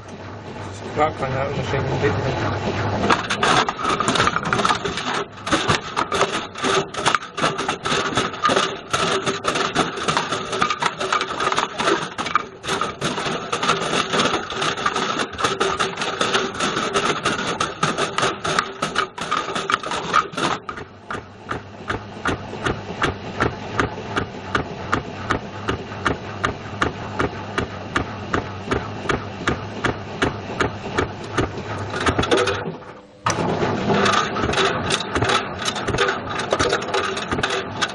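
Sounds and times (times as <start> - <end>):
washing machine motor hum: 0.0 - 37.9
object rattling and knocking in drum: 3.0 - 37.9.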